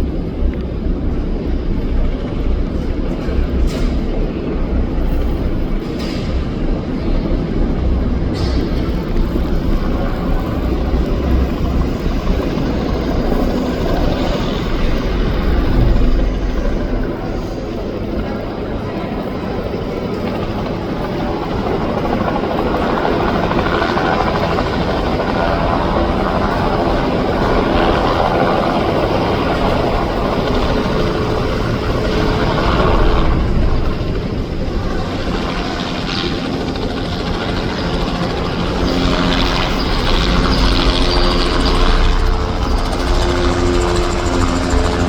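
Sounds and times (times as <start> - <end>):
helicopter rotor pulsing: 0.0 - 45.0.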